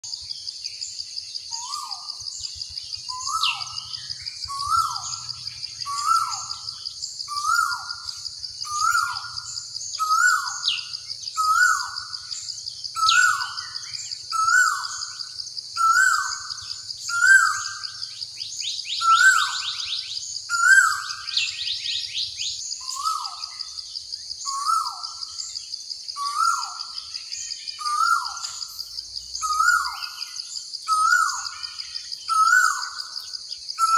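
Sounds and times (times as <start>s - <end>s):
other birds chirping and trilling: 0.0s - 33.9s.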